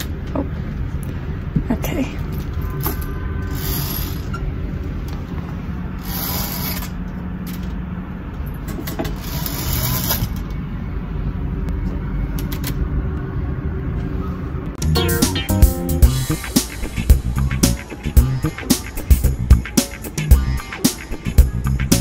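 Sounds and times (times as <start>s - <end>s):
low rumble of street traffic: 0.0s - 22.0s.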